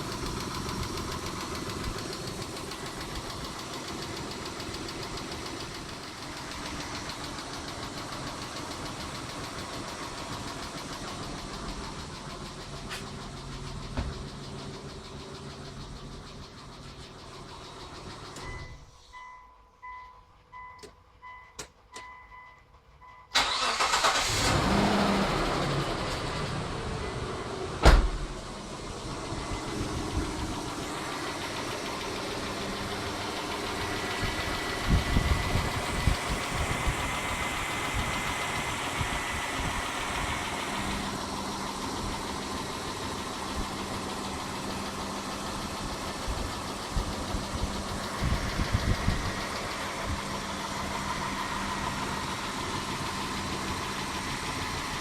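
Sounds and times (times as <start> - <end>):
car engine cranking and idling: 0.0 - 55.0.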